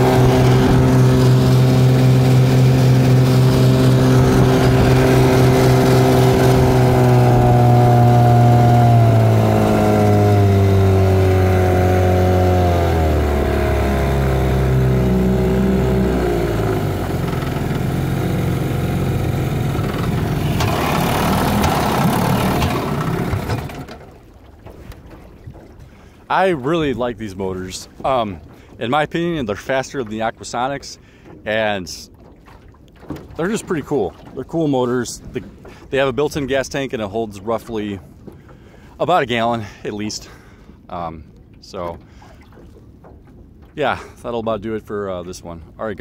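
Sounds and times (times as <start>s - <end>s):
outboard motor running: 0.0s - 46.0s.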